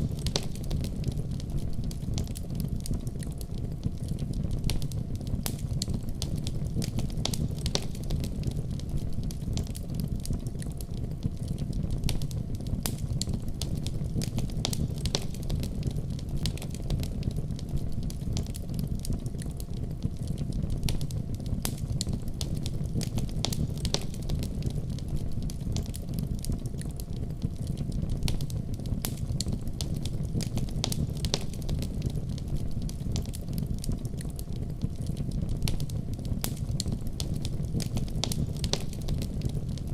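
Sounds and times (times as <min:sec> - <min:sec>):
fire low rumble: 0:00.0 - 0:39.9
wood fire crackling: 0:00.0 - 0:39.9.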